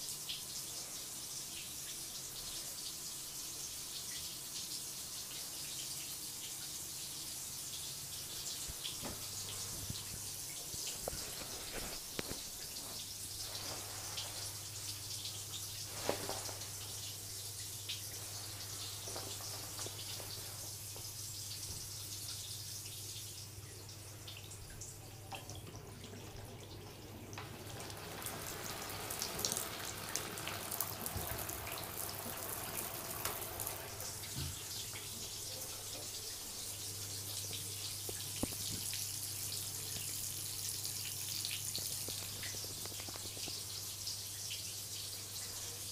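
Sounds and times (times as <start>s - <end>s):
small drips and clicks: 0.0s - 45.8s
water running from bath tap: 0.0s - 45.9s.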